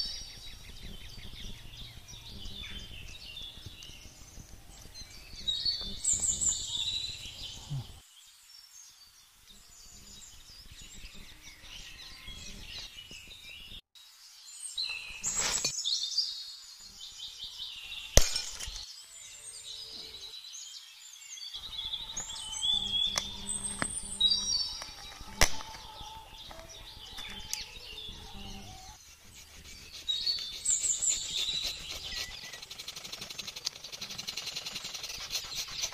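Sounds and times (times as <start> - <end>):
birds chirping and singing: 0.0 - 13.8, 14.5 - 35.9.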